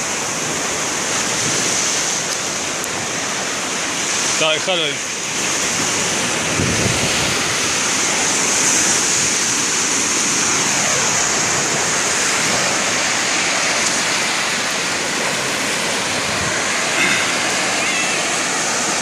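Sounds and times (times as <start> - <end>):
ocean surf on a beach: 0.0 - 19.0.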